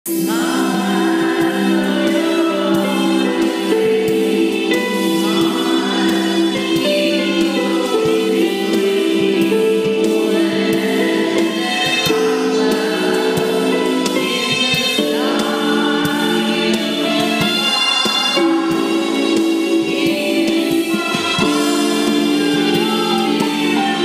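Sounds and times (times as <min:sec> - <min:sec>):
choral music with held chords: 0:00.1 - 0:24.0.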